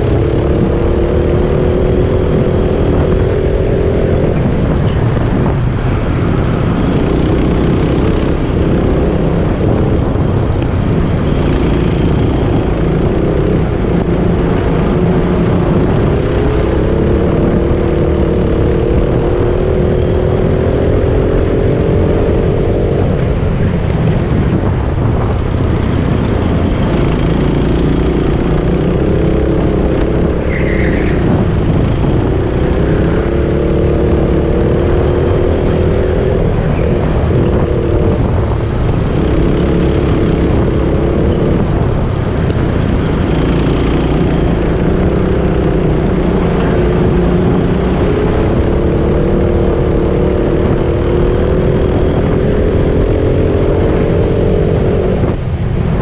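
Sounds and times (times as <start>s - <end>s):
go-kart engine: 0.0s - 56.0s.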